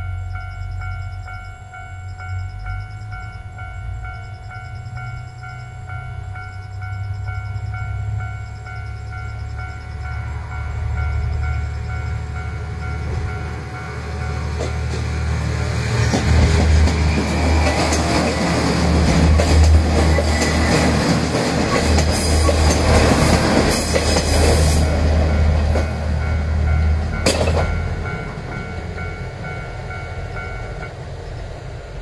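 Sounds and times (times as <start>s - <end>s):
crossing warning bell ringing: 0.0s - 32.0s
diesel train engine drone: 0.0s - 32.0s
train wheels rumbling on rails: 0.0s - 32.0s.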